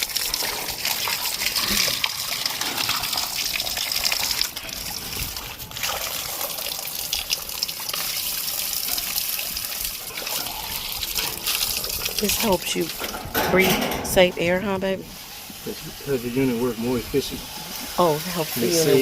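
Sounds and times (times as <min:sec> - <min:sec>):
water spraying on metal fins: 0:00.0 - 0:19.0.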